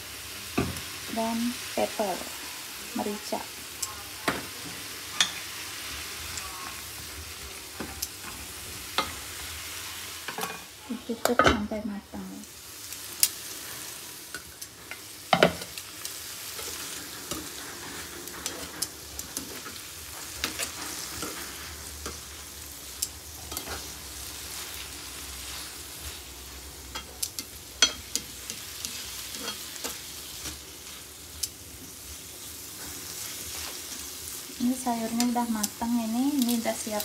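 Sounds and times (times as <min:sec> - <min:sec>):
vegetables sizzling in a pan: 0:00.0 - 0:37.0.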